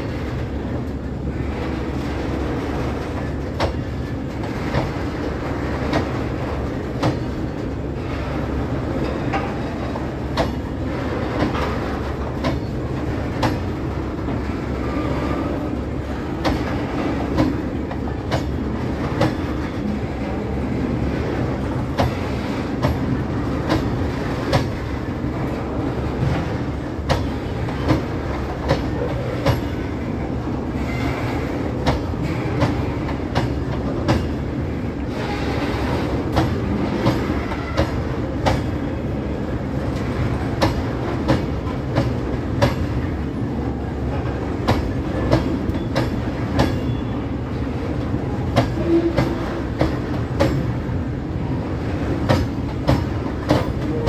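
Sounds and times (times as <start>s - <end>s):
wheels clacking over rail joint: 0.0s - 20.4s, 21.2s - 30.2s, 30.8s - 39.0s, 39.8s - 51.0s, 51.9s - 54.0s
freight wagons rolling on rails: 0.0s - 54.0s.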